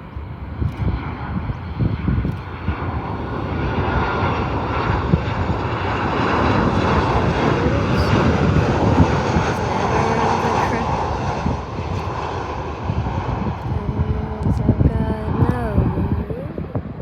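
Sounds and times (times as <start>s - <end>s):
jet engine roar with whine: 0.0s - 17.0s.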